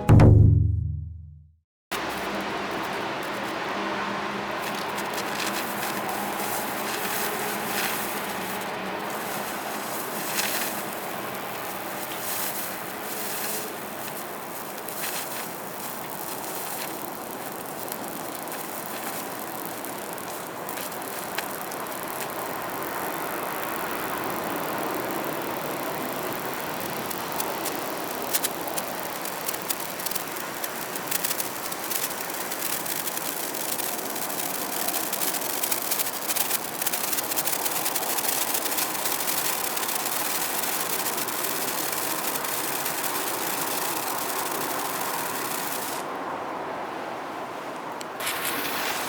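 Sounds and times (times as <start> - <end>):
outdoor background hiss: 1.9 - 49.0
sparkler crackling: 2.0 - 46.1, 48.2 - 49.0.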